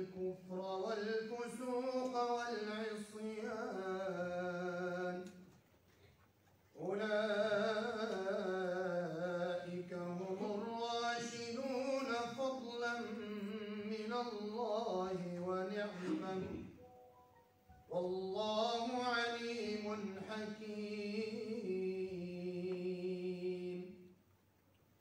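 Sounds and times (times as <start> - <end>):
man chanting: 0.0 - 5.4, 6.8 - 16.8, 17.9 - 24.0.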